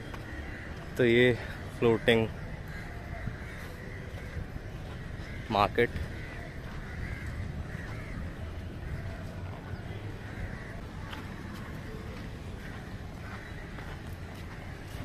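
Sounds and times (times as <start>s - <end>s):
faint bird calls: 0.0s - 15.0s
low outdoor background noise: 0.0s - 15.0s.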